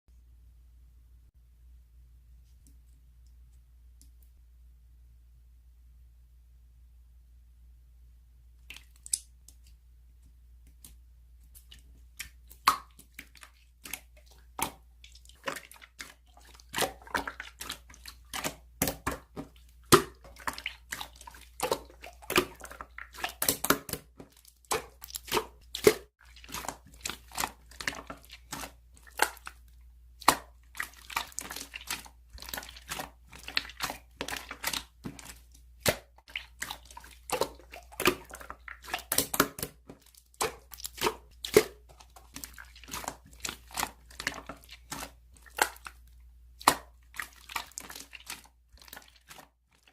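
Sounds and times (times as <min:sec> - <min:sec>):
hands squishing slime: 0:08.6 - 0:49.9.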